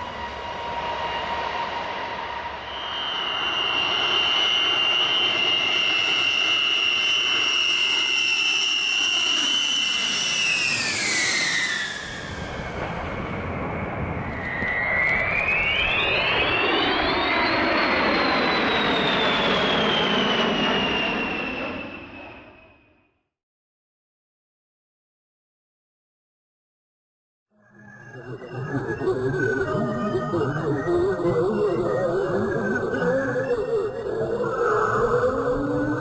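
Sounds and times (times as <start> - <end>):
jet engine whine and rush: 0.0 - 23.0, 27.7 - 36.0.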